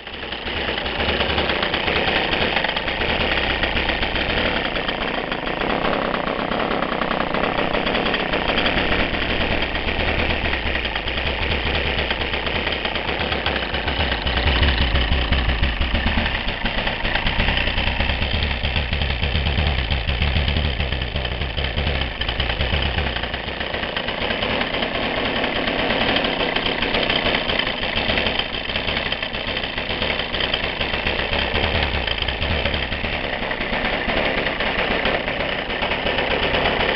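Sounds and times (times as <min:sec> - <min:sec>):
petrol engine running: 0:00.0 - 0:36.9.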